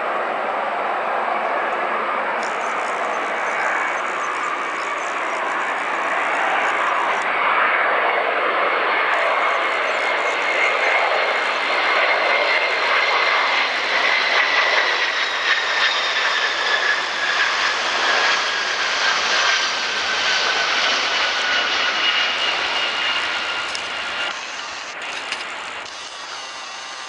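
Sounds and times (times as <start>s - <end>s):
jet airliner passing: 0.0s - 27.0s.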